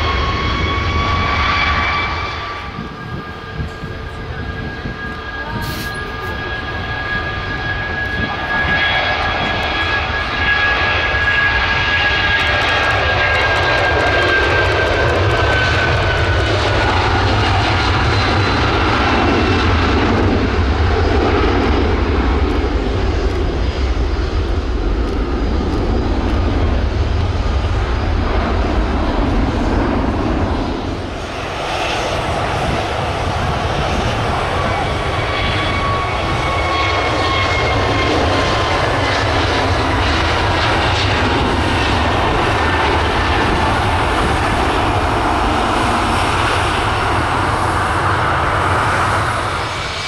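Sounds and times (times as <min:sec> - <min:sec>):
another jet's engines: 0:00.0 - 0:50.0
jet engines roaring on takeoff: 0:00.0 - 0:50.0.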